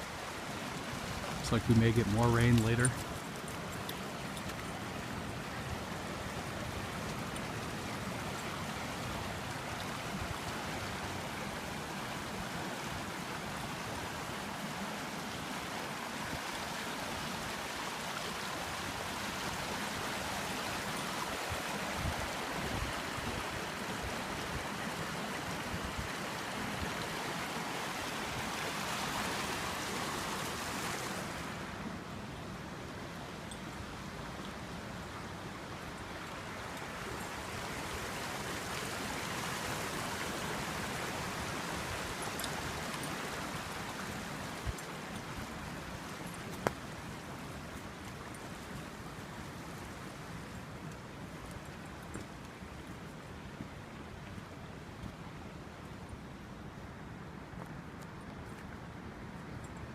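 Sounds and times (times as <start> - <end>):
water rushing in a channel: 0.0 - 56.9.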